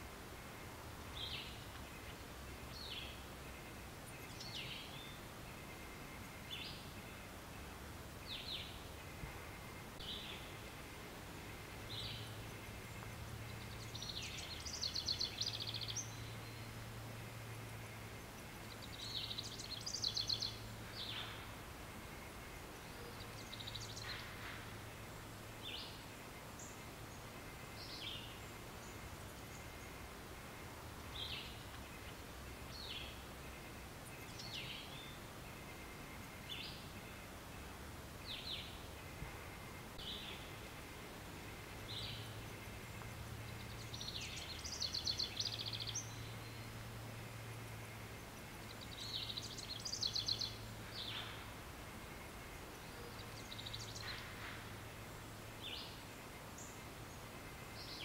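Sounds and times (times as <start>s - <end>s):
birds chirping: 0.0s - 58.0s
faint low hum: 0.0s - 58.0s.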